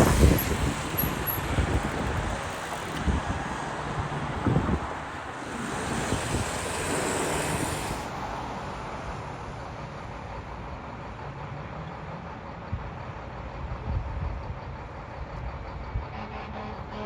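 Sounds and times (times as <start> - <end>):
vehicle rumble with road noise: 0.0 - 17.0.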